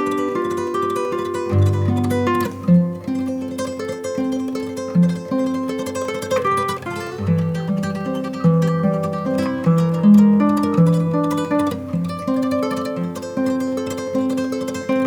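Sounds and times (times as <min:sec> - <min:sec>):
acoustic guitar instrumental music: 0:00.0 - 0:15.0.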